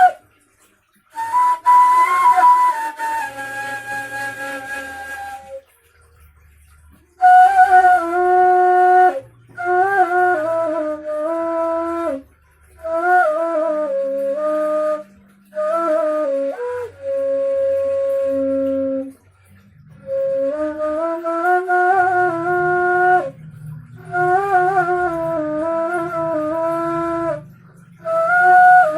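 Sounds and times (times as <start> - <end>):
breathy flute playing: 0.0 - 0.4, 1.1 - 28.9.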